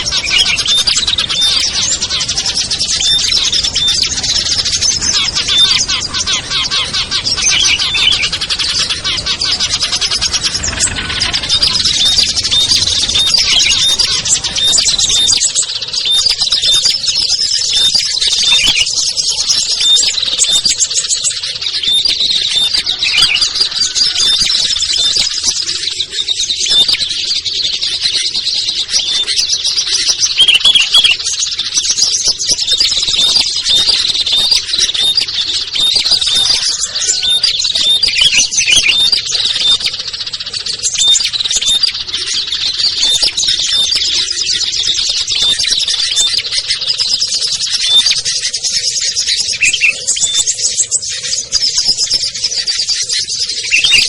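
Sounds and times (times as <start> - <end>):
chorus of songbirds chirping: 0.0 - 54.0.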